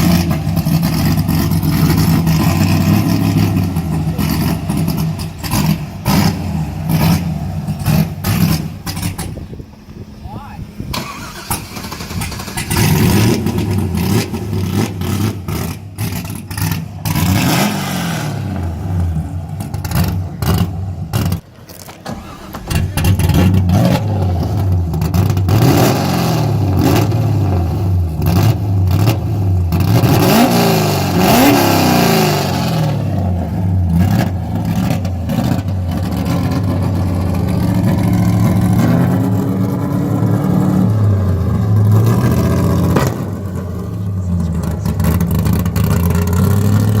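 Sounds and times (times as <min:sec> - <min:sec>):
car engine revving: 0:00.0 - 0:09.5, 0:10.9 - 0:21.5, 0:22.1 - 0:47.0.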